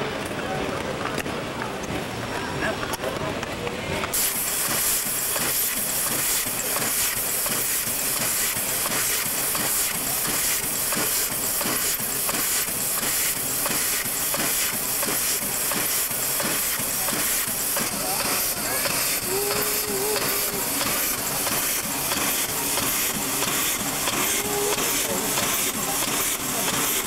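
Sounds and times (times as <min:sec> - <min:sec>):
steam locomotive hissing: 0:04.0 - 0:27.0.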